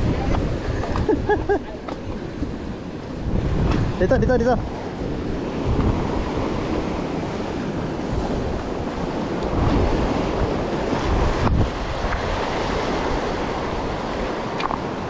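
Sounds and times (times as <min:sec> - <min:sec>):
surf breaking over rocks: 0:00.0 - 0:15.0
wind buffeting microphone: 0:00.0 - 0:15.0.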